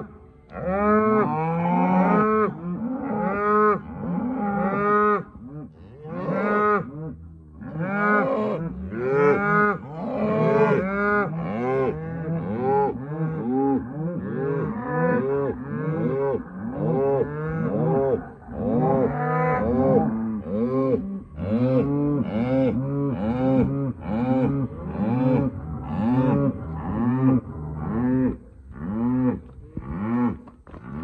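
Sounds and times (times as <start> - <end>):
cattle mooing and bawling: 0.0 - 5.3, 5.9 - 31.0.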